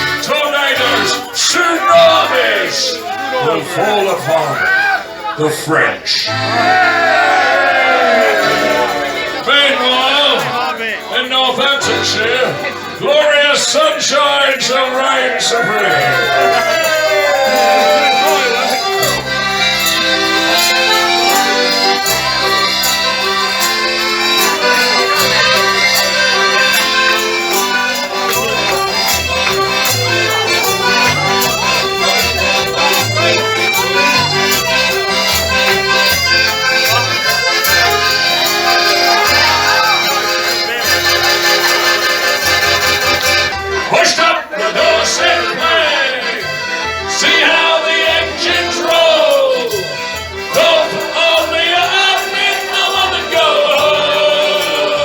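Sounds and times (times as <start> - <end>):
live band playing instrumental tune: 0.0 - 5.4, 6.0 - 14.3, 15.6 - 44.0, 44.8 - 55.0
voices talking: 0.0 - 55.0.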